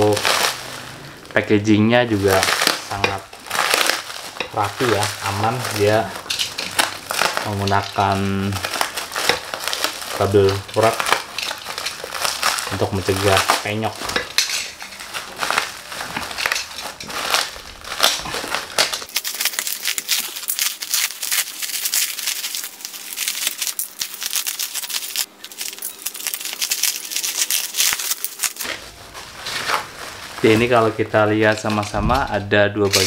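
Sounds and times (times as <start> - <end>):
bubble wrap crinkling and crackling: 0.0 - 33.0.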